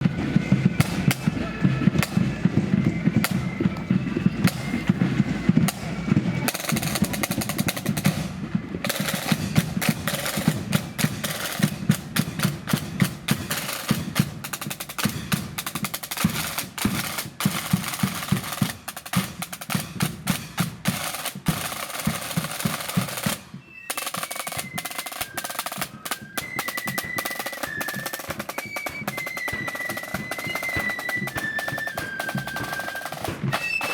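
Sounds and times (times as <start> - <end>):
high flute melody: 0.0 - 19.8, 20.9 - 33.9
side drums rolling: 0.0 - 33.9.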